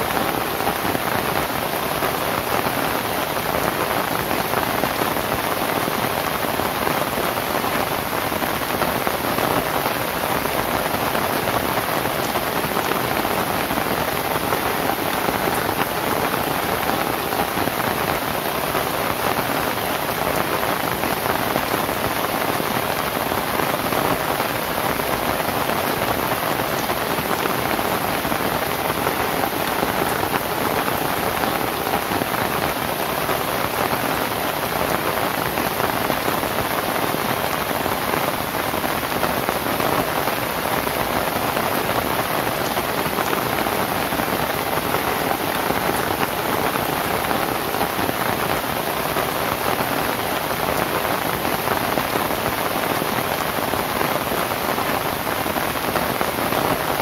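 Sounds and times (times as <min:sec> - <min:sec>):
rain on a thatched roof: 0:00.0 - 0:57.0.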